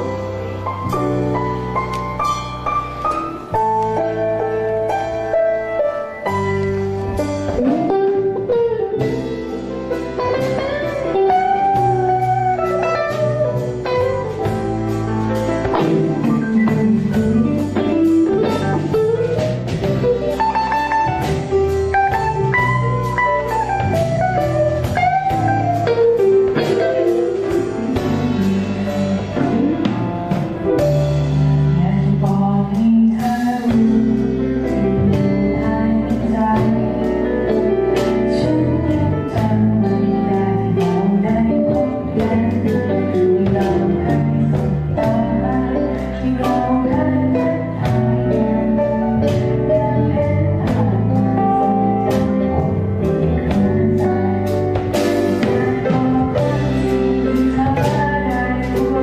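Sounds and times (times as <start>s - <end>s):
bass and drums backing: 0.0s - 59.0s
electric guitar lead: 0.0s - 59.0s.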